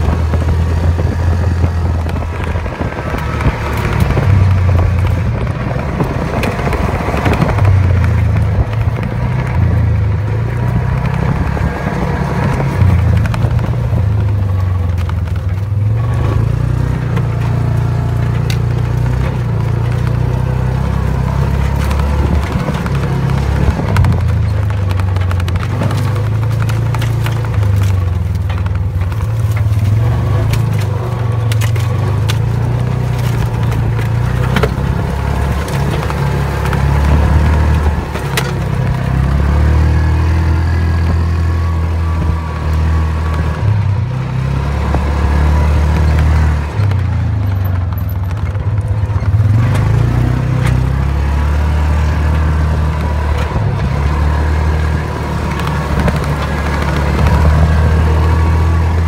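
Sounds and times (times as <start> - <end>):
knocks and rattles from bumps: 0.0 - 59.0
utility vehicle engine rumbling: 0.0 - 59.0.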